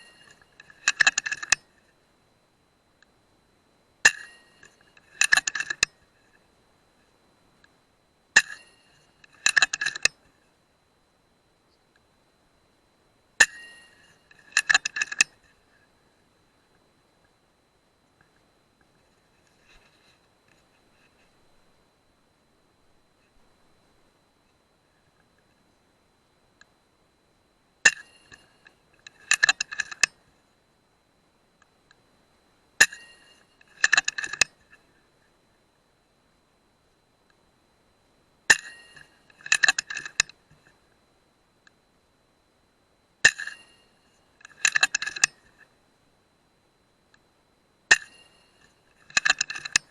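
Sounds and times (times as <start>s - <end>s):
faint high whine: 0.0s - 49.9s.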